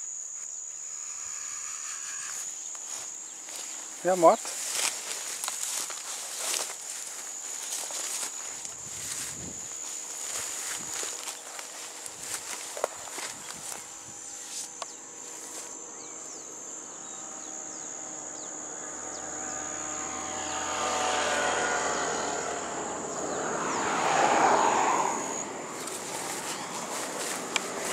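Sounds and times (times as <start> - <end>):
vehicle engine hum passing: 2.9 - 27.9.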